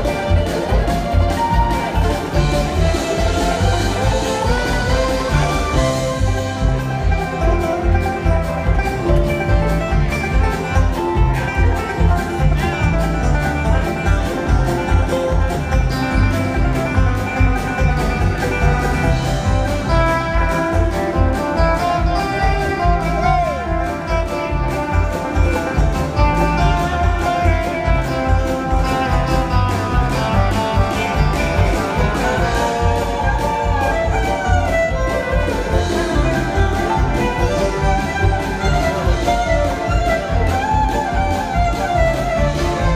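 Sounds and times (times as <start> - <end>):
live band playing: 0.0 - 42.9.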